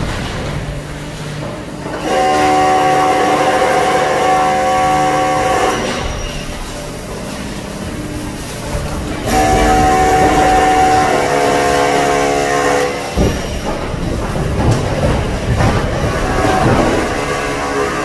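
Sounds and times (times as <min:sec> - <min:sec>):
low rumbling and clatter: 0:00.0 - 0:18.0.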